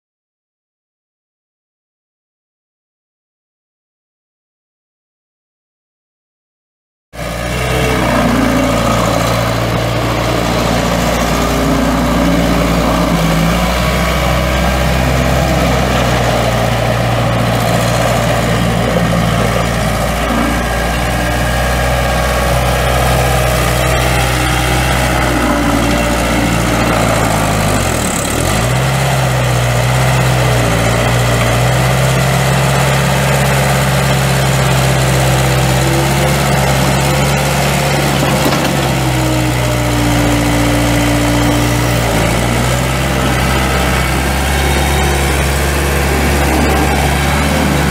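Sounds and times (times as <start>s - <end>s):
diesel engine running: 7.2s - 47.9s.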